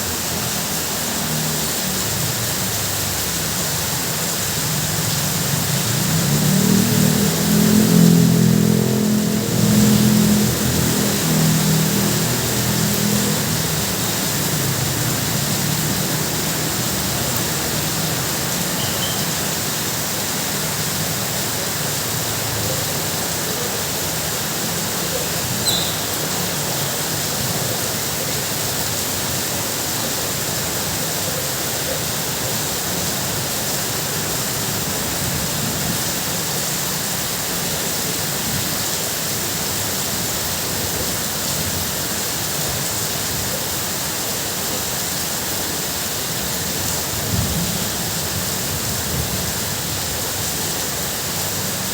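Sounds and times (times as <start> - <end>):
heavy rain on a tin roof: 0.0 - 51.9.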